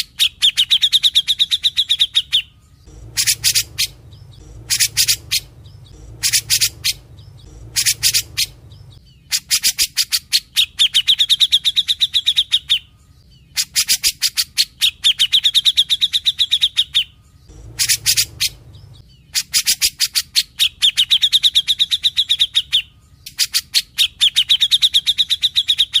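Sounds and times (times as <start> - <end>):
bulbul singing: 0.0 - 26.0.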